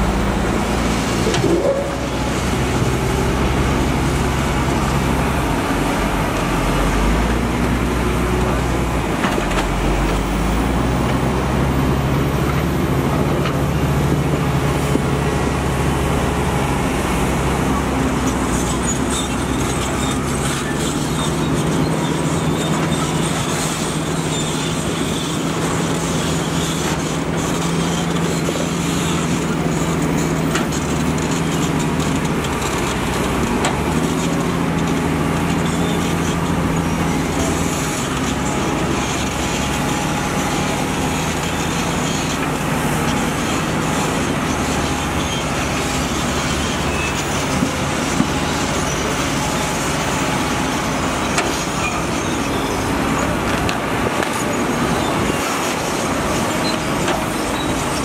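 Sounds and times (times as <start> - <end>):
heavy construction machinery engine: 0.0 - 58.0.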